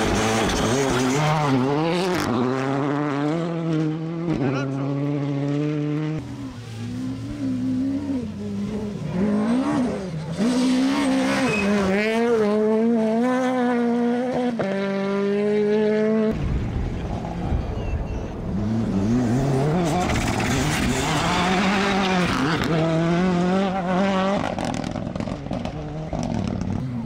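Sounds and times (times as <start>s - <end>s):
rally car engines revving hard: 0.0s - 17.5s, 18.3s - 27.0s
gravel and tyre noise: 0.0s - 27.0s.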